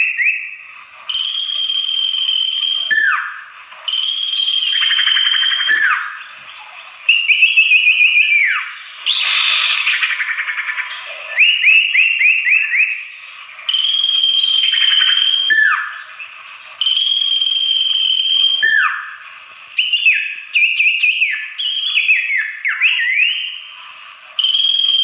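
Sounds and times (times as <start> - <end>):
recorded bird calls: 0.0 - 1.9, 2.8 - 25.0.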